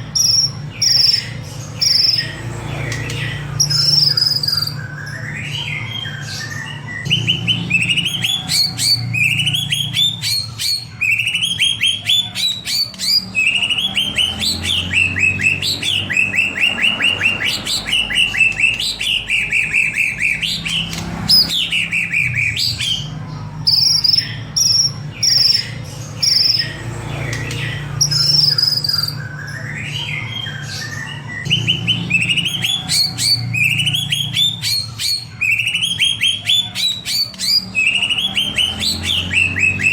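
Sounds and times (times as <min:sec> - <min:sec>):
bird singing rattles and whistles: 0:00.0 - 0:39.9.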